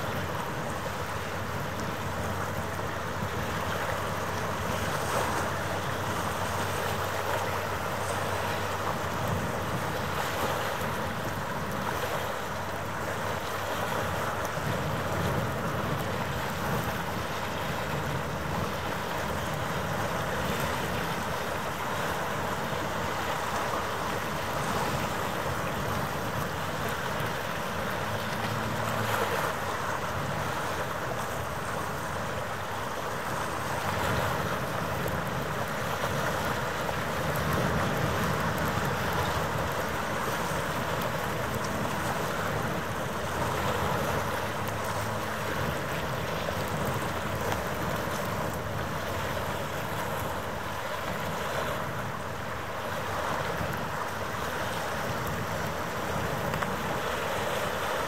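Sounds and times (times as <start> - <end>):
rushing harbour water: 0.0 - 58.0
wind buffeting microphone: 0.0 - 58.0.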